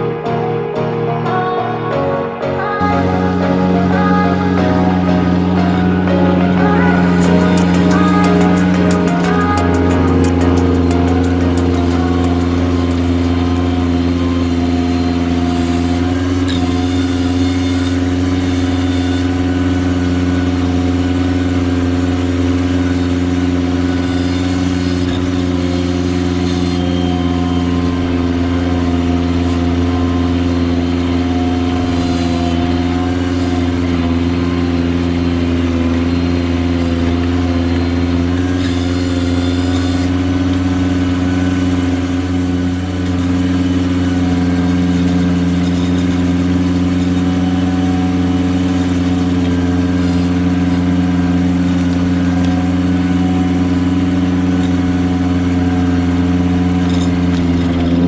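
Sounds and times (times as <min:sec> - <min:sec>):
tractor engine running: 0:02.6 - 0:58.0.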